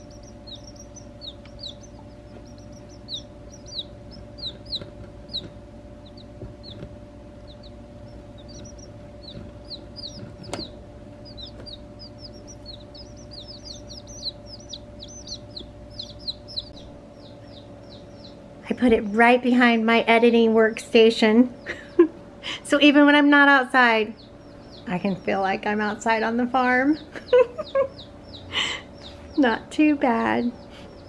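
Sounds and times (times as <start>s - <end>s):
baby chicks peeping: 0.0s - 31.0s
low hum: 0.0s - 31.0s.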